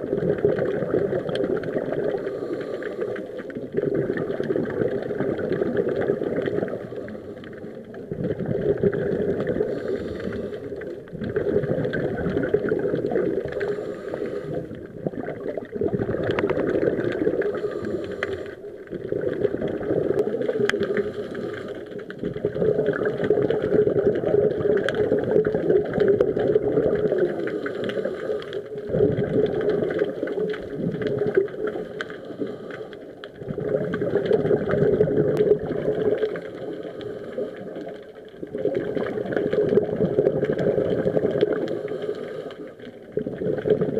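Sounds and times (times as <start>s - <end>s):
underwater exhaled bubbles: 0.0s - 43.9s
faint clicks: 0.5s - 8.2s, 9.3s - 22.4s, 23.1s - 40.6s.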